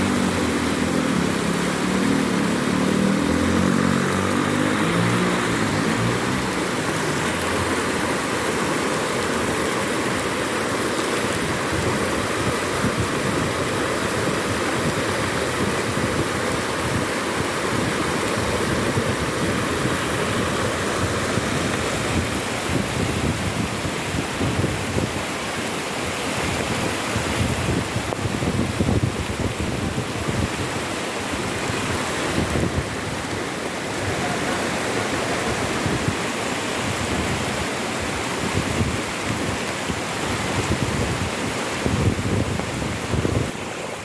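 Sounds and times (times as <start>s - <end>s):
floodwater rushing along street: 0.0s - 44.0s.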